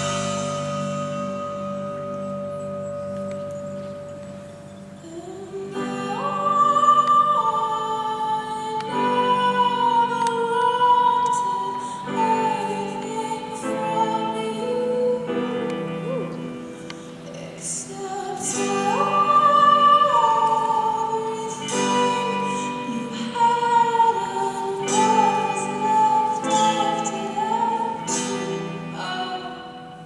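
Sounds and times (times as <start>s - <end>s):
music: 0.0s - 30.0s
woman singing long notes: 5.0s - 30.0s.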